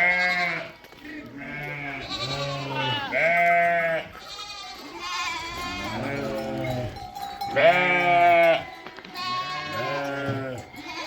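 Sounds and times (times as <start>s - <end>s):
livestock bleating: 0.0s - 11.0s.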